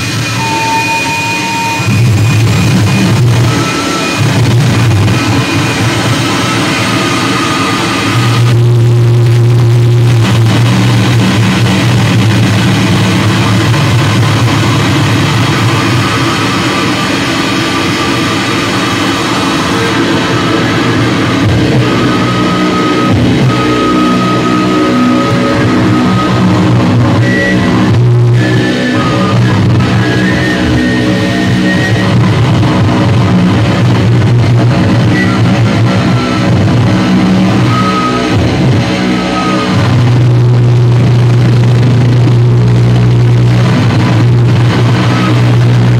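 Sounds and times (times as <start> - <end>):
distorted electric guitars: 0.0 - 45.9.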